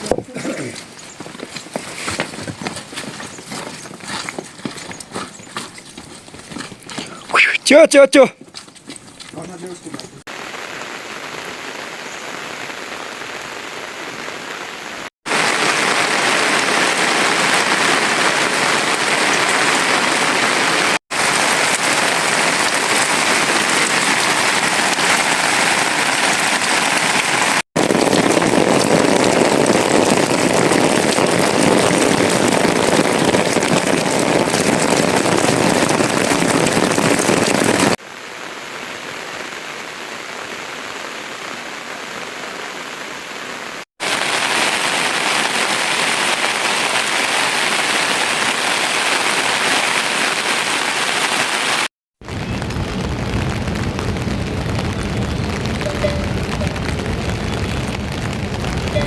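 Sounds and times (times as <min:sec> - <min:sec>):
rain falling steadily: 0:09.3 - 0:59.0.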